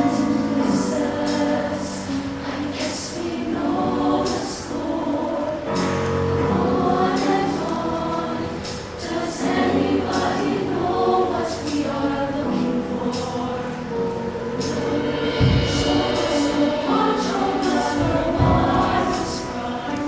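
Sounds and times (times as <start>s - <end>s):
choir singing in harmony: 0.0s - 20.0s
musical accompaniment: 0.0s - 20.0s.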